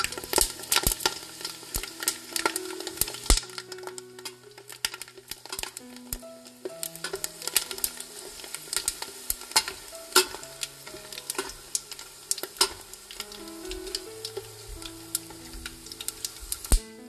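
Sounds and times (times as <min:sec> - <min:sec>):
chopsticks stirring in oil: 0:00.0 - 0:16.8
seaweed sizzling in hot oil: 0:00.0 - 0:17.0.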